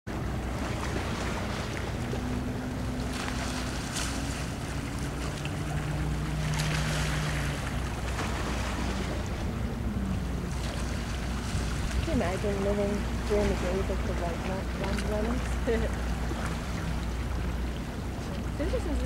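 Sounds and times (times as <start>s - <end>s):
boat engine hum: 0.1s - 19.0s.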